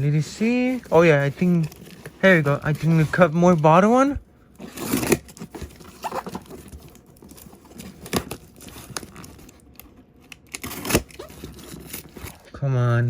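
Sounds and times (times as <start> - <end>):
cardboard and tape tearing: 0.0 - 3.8, 4.6 - 9.6, 10.4 - 12.5
knife cutting cardboard box: 0.0 - 3.8, 4.6 - 9.5, 10.5 - 12.5.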